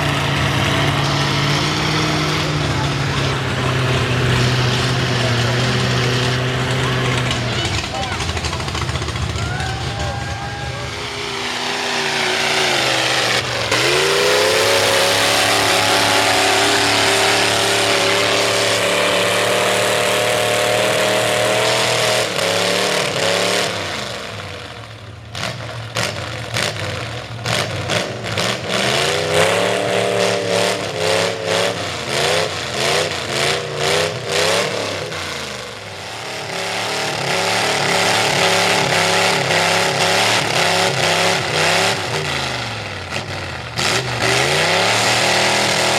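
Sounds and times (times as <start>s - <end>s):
truck engine revving hard: 0.0s - 45.9s.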